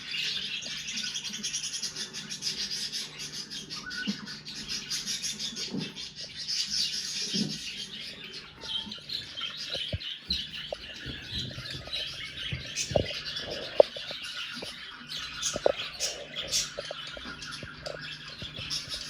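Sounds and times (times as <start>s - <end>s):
budgerigars chattering and warbling: 0.0s - 19.0s.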